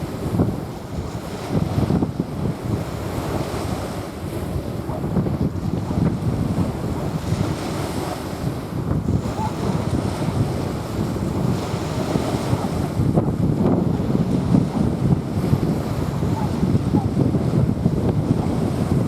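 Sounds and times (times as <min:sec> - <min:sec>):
small waves washing onto sand: 0:00.0 - 0:19.0
wind buffeting microphone: 0:00.0 - 0:19.0.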